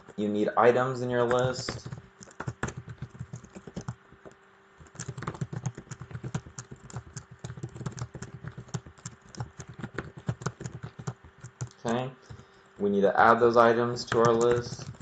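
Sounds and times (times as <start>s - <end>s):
keyboard typing: 1.2s - 12.8s, 13.9s - 15.0s.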